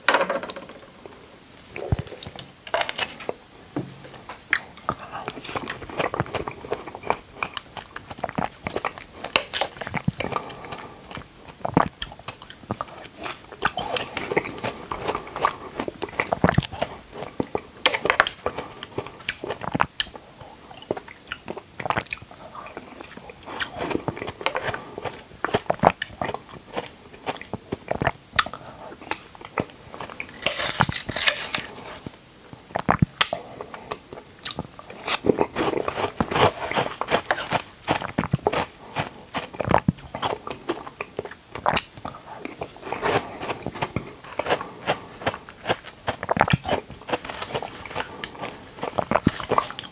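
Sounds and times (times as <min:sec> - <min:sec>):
biting and chewing fruit: 0:01.6 - 0:49.9.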